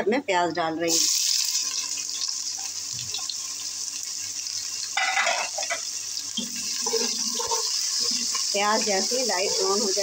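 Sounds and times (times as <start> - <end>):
onions sizzling in oil: 0.9 - 10.0.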